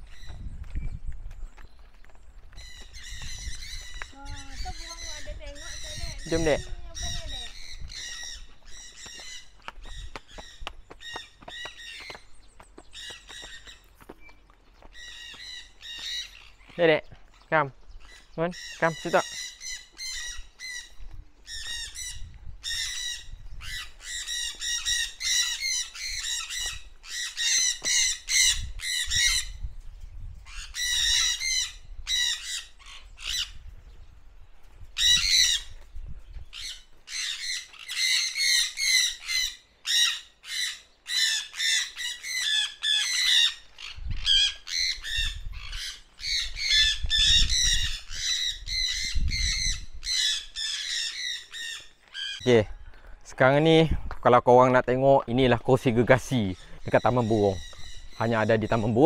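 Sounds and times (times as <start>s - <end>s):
birds squawking harshly: 2.5s - 34.0s, 34.7s - 53.2s, 55.3s - 59.0s.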